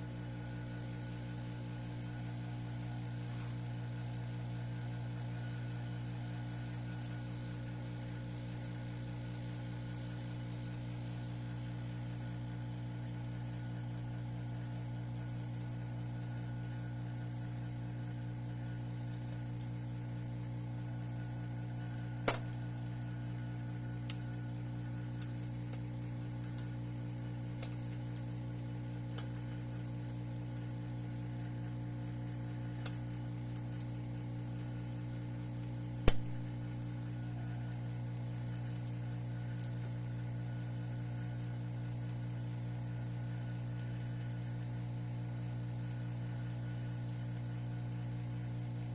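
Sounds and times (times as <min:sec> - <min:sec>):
electrical hum: 0:00.0 - 0:48.9.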